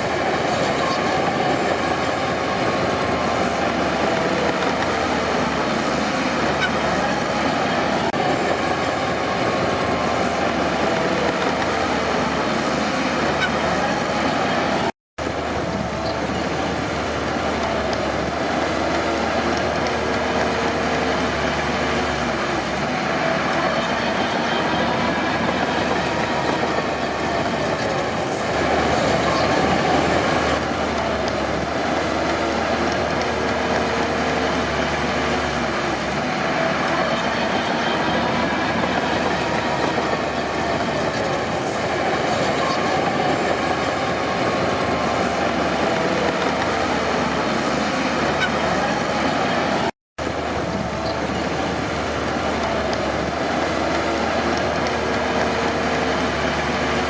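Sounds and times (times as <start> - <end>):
steel tracks grinding: 0.0 - 49.9
bulldozer diesel engine running: 0.0 - 57.0.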